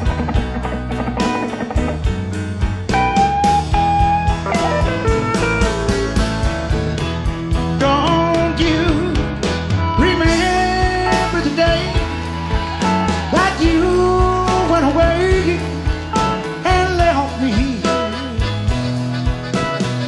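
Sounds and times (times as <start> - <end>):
country band playing: 0.0 - 20.0.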